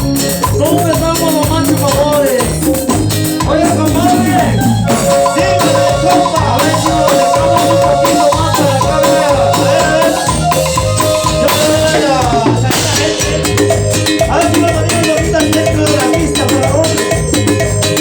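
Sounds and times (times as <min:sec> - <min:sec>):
melodic lead line: 0:00.0 - 0:18.0
shaker percussion: 0:00.0 - 0:18.0
steady beat: 0:00.0 - 0:18.0.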